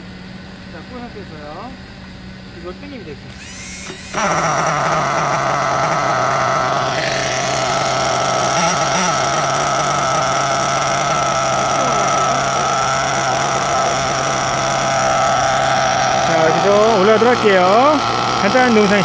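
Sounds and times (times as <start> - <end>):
small engine idling: 0.0 - 19.0
electric starter spinning: 2.2 - 19.0.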